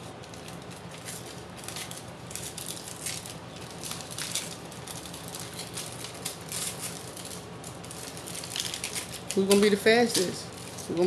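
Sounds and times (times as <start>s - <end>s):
paper envelopes rustling: 0.0s - 11.0s.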